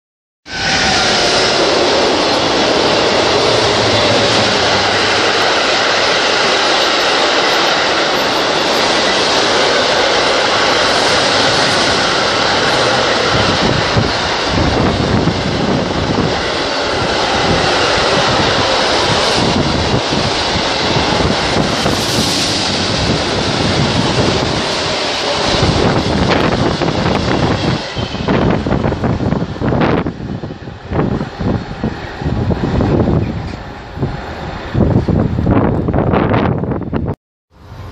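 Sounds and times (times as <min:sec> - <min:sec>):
train wheels rumbling on rail: 0:00.4 - 0:37.9.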